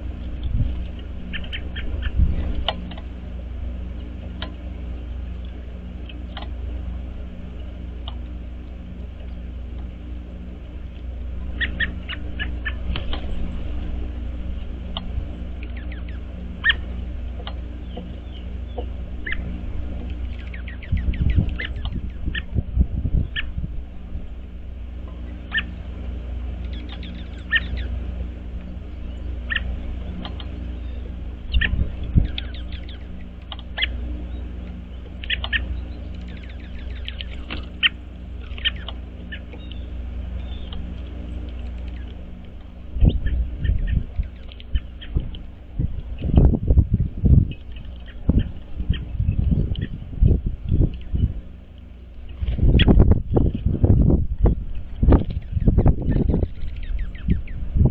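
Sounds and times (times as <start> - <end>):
songbirds chirping: 0.0 - 57.9
steady low hum: 0.0 - 57.9.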